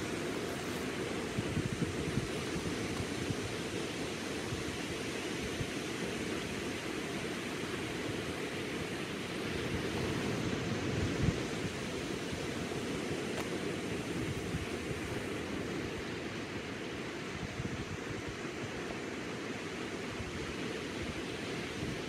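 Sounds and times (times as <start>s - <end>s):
small waves breaking on beach: 0.0s - 22.0s.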